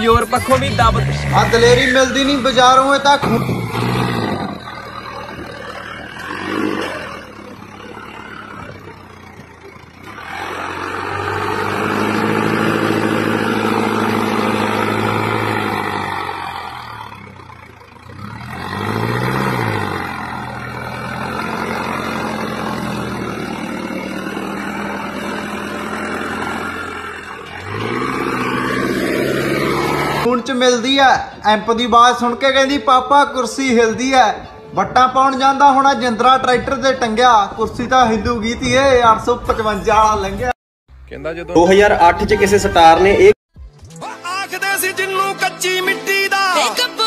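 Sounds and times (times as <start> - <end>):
tractor diesel engine revving: 0.0 - 42.4.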